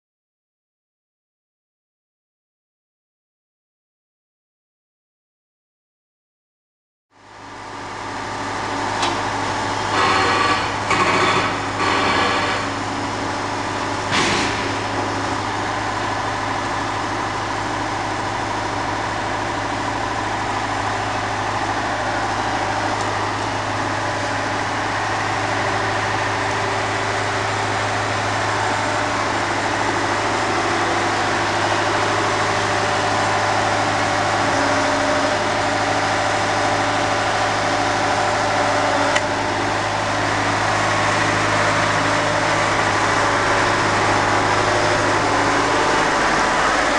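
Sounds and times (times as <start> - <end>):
engine idling: 7.2 - 46.9.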